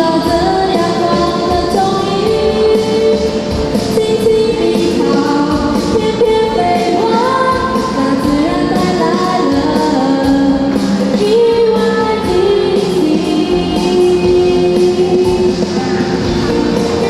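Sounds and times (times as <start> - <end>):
backing music with steady beat: 0.0 - 17.0
voices singing in unison: 0.0 - 17.0.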